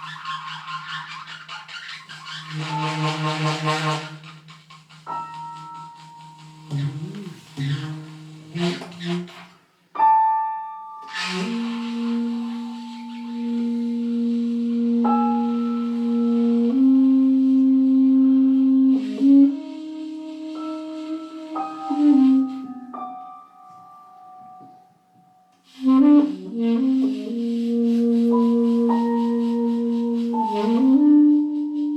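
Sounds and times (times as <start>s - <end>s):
woodwind slow melody: 0.0s - 9.6s, 10.8s - 31.9s.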